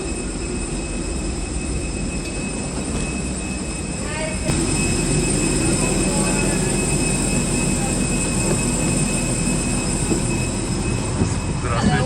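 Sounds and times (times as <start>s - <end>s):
high whining tones: 0.0s - 12.0s
jet turbine drone: 0.0s - 12.0s.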